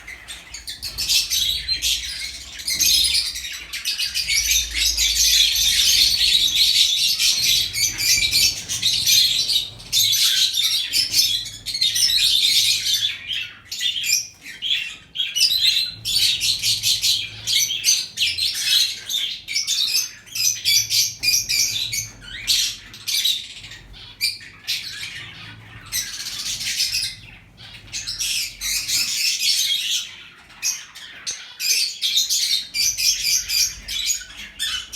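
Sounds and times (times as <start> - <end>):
birds chirping and squawking: 0.0 - 34.9.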